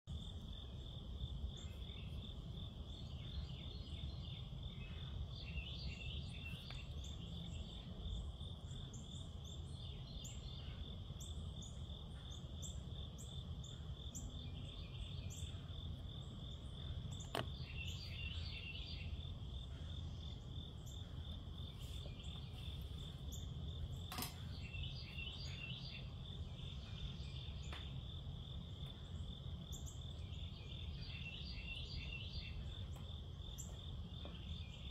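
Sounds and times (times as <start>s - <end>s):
insect chirps: 0.1s - 34.9s
low background rumble: 0.1s - 34.9s
night insects trilling: 0.1s - 34.9s.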